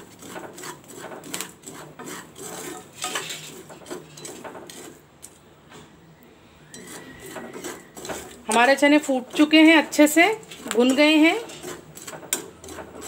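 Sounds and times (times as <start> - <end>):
spatula scraping through salt: 0.0 - 5.4, 6.7 - 13.0.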